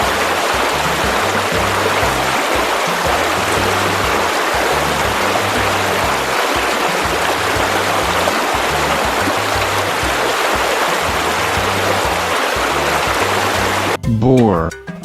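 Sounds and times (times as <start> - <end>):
stream water flowing: 0.0 - 14.0
background music bass line: 0.0 - 15.0.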